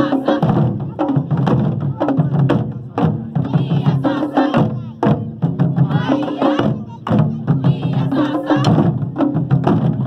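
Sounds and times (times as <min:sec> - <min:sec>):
woody percussion beat: 0:00.0 - 0:10.0.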